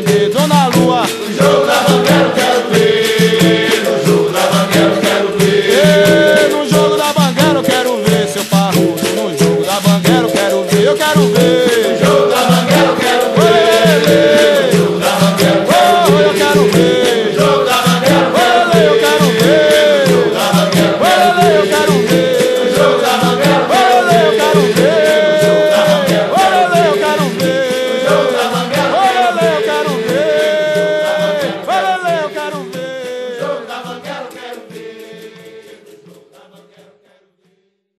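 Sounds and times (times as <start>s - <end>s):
steady drum beat: 0.0s - 35.8s.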